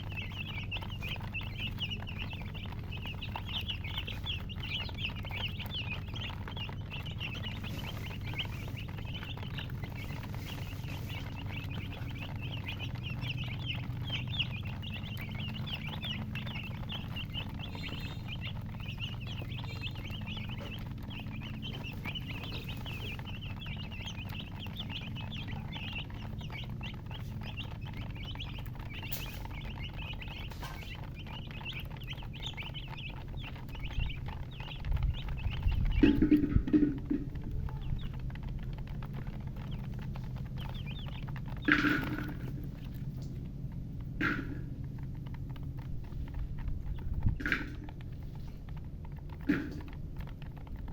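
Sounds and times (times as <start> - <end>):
baby chicks chirping: 0.0 - 50.9
low steady hum: 0.0 - 50.9.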